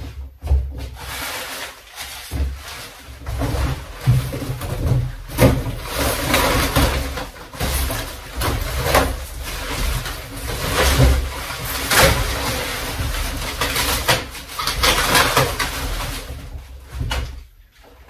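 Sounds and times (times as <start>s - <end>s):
crackles and knocks: 0.0s - 18.0s
cardboard box rustling and scraping: 0.2s - 17.4s.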